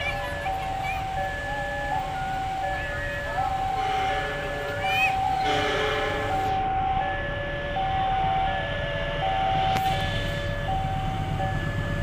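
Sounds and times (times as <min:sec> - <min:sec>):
train rumble: 0:00.0 - 0:12.0
two-tone crossing alarm: 0:00.0 - 0:12.0.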